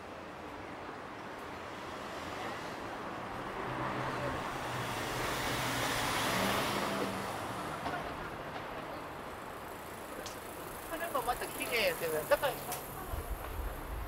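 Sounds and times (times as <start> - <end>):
car passing: 1.7 - 14.0.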